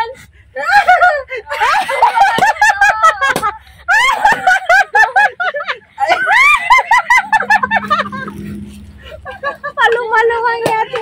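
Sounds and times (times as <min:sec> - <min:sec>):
high-pitched laughter: 0:00.6 - 0:10.2.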